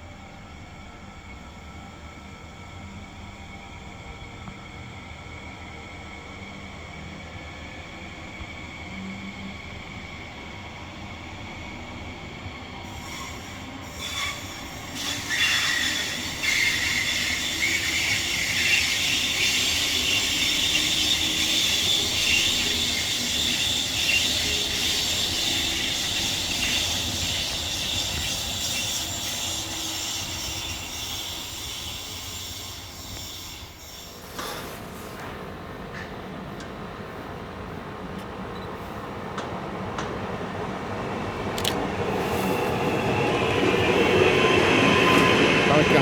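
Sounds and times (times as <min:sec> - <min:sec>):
train wheels rushing on rails: 0:00.0 - 0:46.0.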